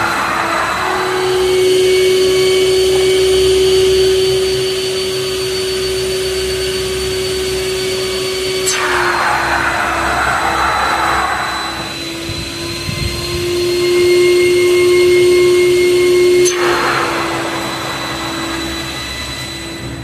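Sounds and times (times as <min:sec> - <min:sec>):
vacuum motor whine: 0:00.0 - 0:20.0.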